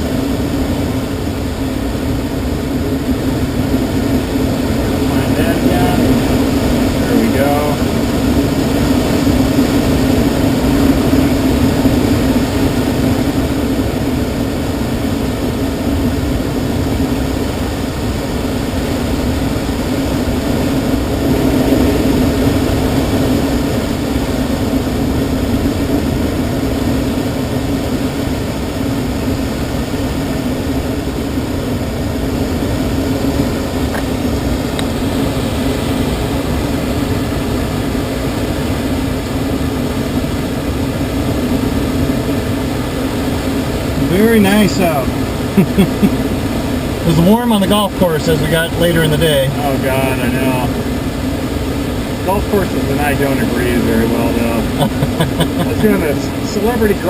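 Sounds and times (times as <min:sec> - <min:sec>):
low hum: 0:00.0 - 0:57.0
wind rushing past cockpit: 0:00.0 - 0:57.0.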